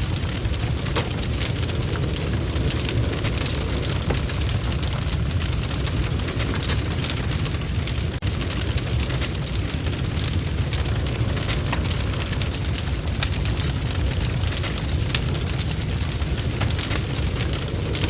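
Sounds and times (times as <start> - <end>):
bonfire crackling and roaring: 0.0 - 18.0.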